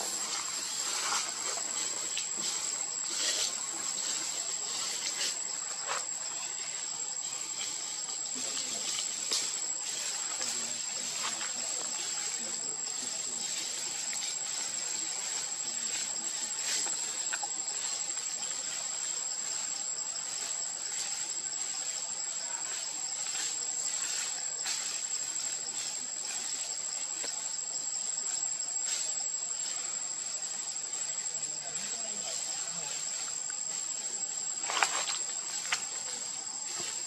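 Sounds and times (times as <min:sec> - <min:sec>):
insect chorus buzzing: 0:00.0 - 0:37.0.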